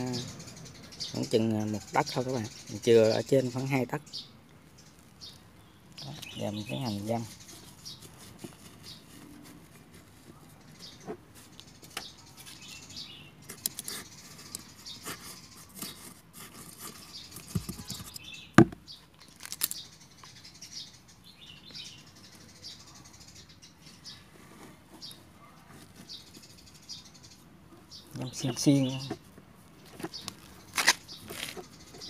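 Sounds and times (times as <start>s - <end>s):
small birds chirping: 0.0s - 32.0s
potting soil crackling and rustling: 1.0s - 20.4s, 23.9s - 32.0s.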